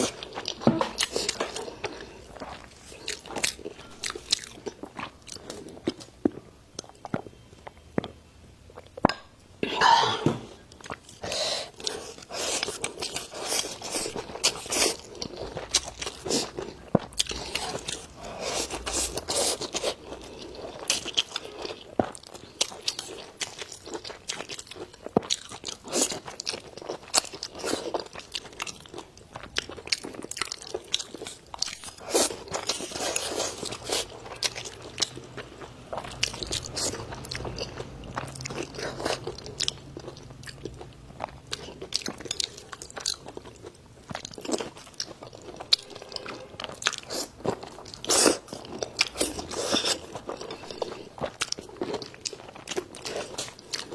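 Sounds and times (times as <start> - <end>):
person chewing crunchy food: 0.0 - 9.1, 9.7 - 53.9.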